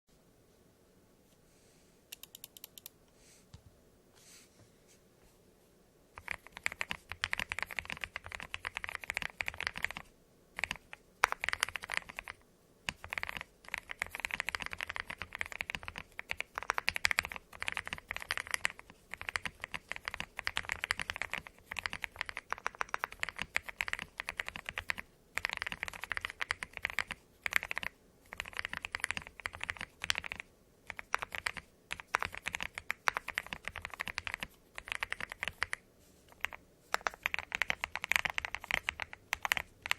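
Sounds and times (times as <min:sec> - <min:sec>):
typing on mechanical keyboard: 0:06.2 - 0:39.9.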